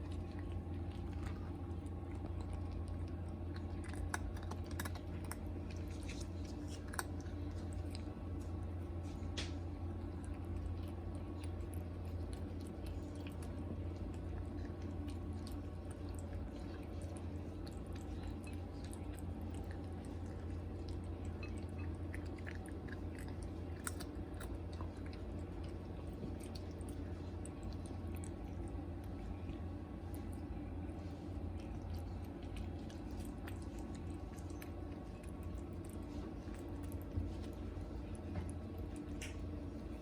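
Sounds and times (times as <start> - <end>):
cat chewing food: 0.0 - 40.0.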